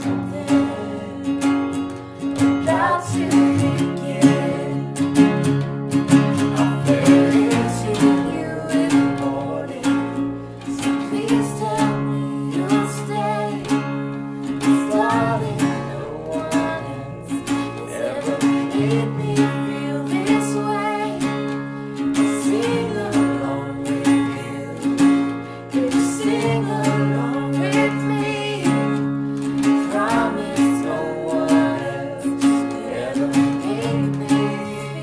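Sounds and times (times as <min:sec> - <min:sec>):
man singing harmony: 0:00.0 - 0:01.7, 0:02.6 - 0:05.2, 0:06.4 - 0:13.9, 0:14.5 - 0:35.0
acoustic bass guitar: 0:00.0 - 0:35.0
acoustic guitars strummed: 0:00.0 - 0:35.0
woman singing: 0:00.0 - 0:35.0.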